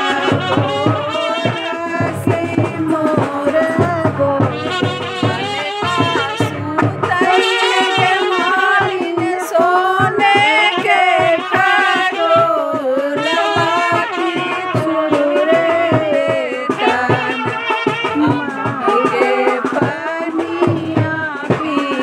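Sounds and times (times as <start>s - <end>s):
devotional folk song melody: 0.0s - 22.0s
drum beats: 0.0s - 22.0s.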